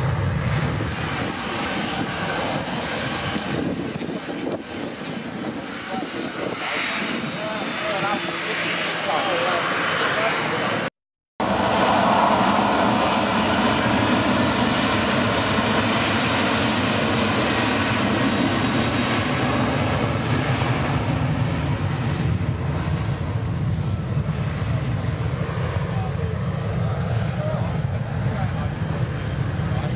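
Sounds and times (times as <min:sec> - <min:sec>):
high engine whine: 0:00.0 - 0:29.9
jet engines running: 0:00.0 - 0:29.9.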